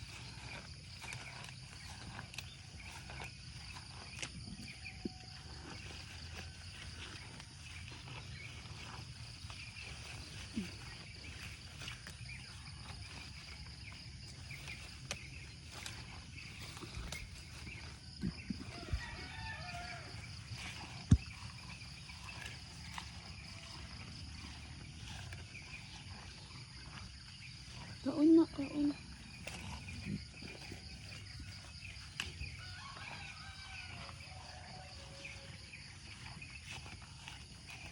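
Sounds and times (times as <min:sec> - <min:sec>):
insects chirring: 0:00.0 - 0:37.9.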